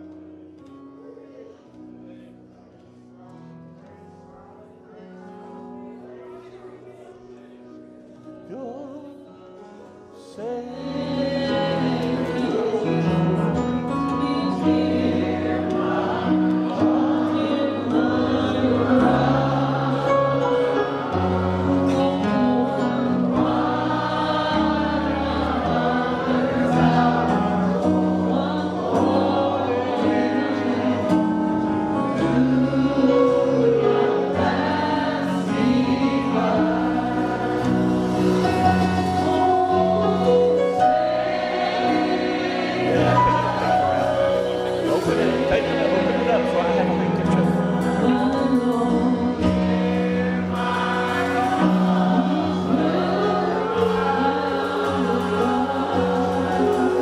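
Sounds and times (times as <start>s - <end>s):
gospel choir singing: 2.9s - 57.0s.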